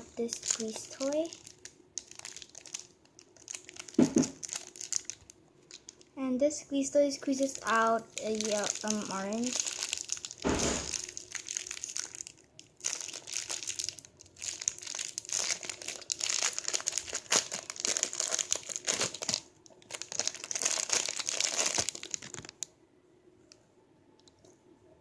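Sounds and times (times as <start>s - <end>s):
plastic packaging crinkling: 0.0s - 6.2s, 7.2s - 22.7s.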